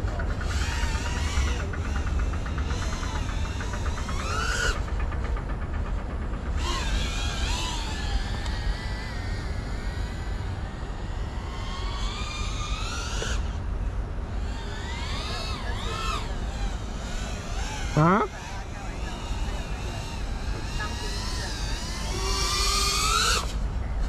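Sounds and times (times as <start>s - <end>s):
drone motors whining: 0.0s - 24.0s
steady low rumble: 0.0s - 24.0s.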